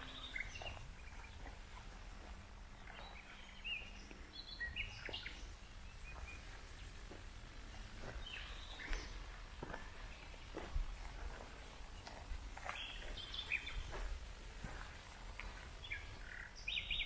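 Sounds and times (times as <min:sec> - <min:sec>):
low outdoor rumble: 0:00.0 - 0:16.8
small birds chirping: 0:00.0 - 0:17.0.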